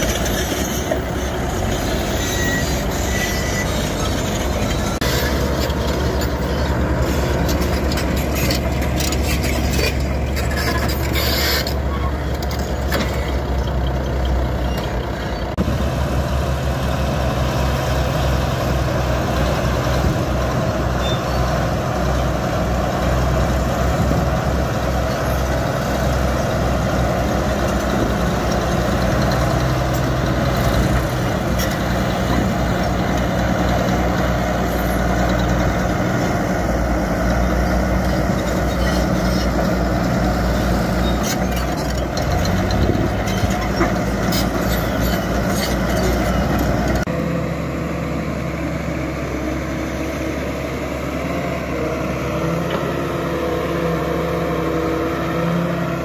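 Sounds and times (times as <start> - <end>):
bulldozer diesel engines: 0.0 - 56.0.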